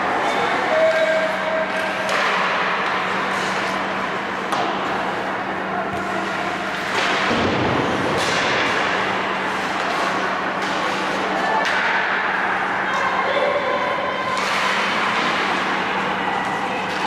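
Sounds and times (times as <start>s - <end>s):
hockey sticks and puck clacking: 0.0s - 13.6s, 14.2s - 17.0s
ice rink noise: 0.0s - 17.0s.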